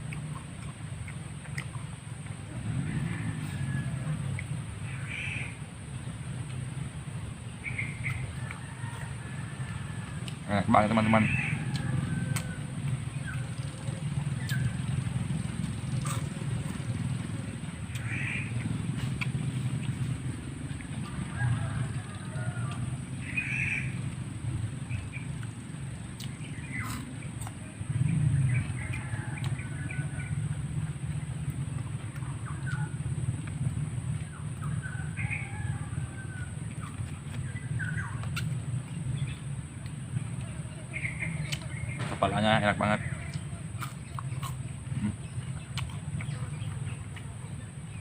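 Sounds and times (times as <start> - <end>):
birds calling: 0.0 - 48.0.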